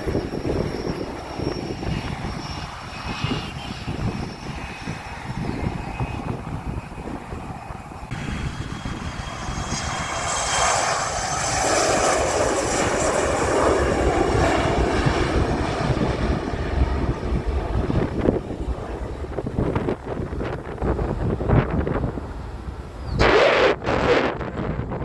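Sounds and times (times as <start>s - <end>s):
jet engines passing: 0.0s - 25.0s
wind buffeting microphone: 0.0s - 25.0s.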